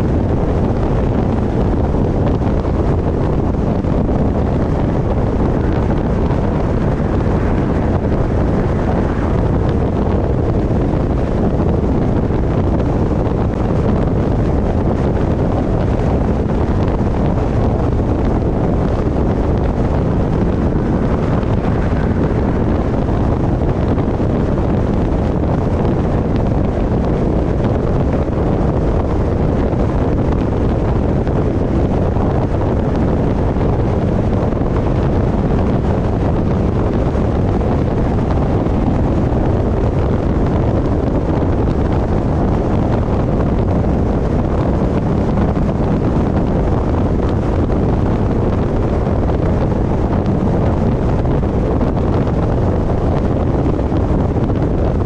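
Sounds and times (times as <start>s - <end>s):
car road noise: 0.0s - 55.0s
wind buffeting microphone: 0.0s - 55.0s.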